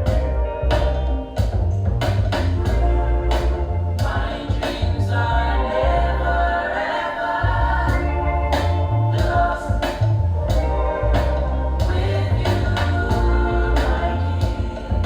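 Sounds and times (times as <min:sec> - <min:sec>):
strong bass line: 0:00.0 - 0:06.6, 0:07.4 - 0:15.0
choir singing gospel: 0:02.3 - 0:15.0.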